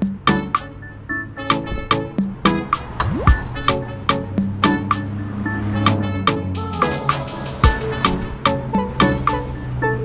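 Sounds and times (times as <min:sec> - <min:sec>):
music with drum beat and bass: 0:00.0 - 0:00.8, 0:01.4 - 0:09.7.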